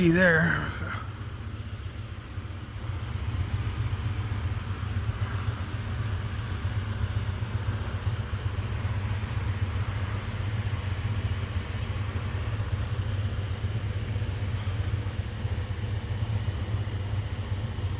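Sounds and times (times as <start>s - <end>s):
coolers roaring: 0.0s - 17.9s.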